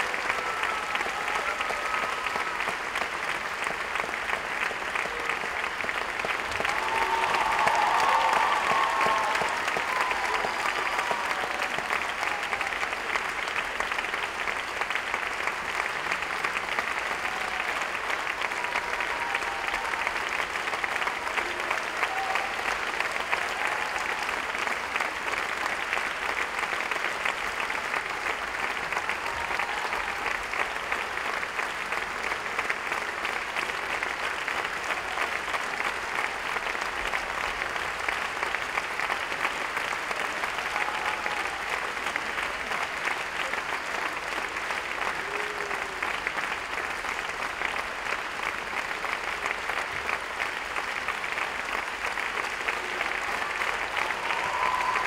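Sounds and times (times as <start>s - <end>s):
audience applauding: 0.0s - 55.0s.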